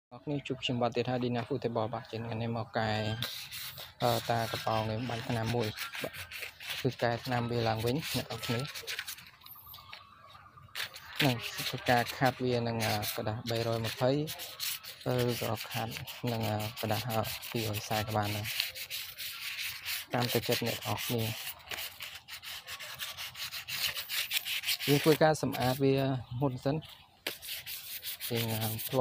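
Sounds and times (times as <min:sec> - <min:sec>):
sandpaper rasping on wood: 0:02.9 - 0:09.3, 0:10.7 - 0:26.1, 0:27.2 - 0:29.0.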